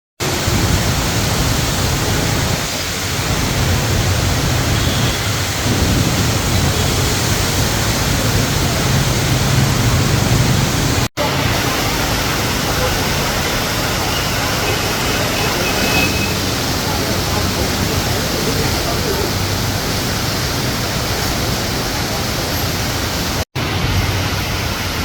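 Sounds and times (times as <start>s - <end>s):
heavy rain hissing: 0.2s - 25.0s.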